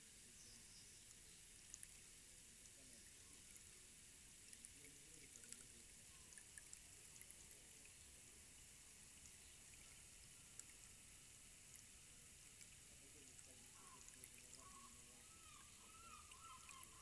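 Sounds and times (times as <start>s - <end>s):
rainstick trickling: 0.0s - 17.0s.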